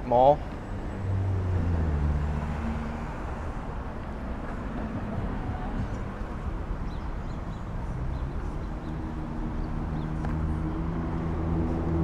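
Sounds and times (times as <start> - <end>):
street traffic noise: 0.0 - 12.0
vehicle engine hum: 0.4 - 12.0.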